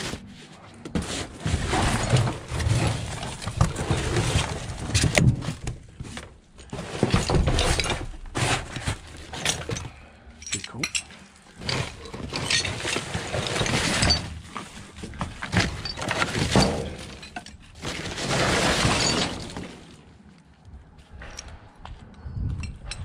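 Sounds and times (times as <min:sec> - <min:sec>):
debris clattering and crunching: 0:00.0 - 0:23.0.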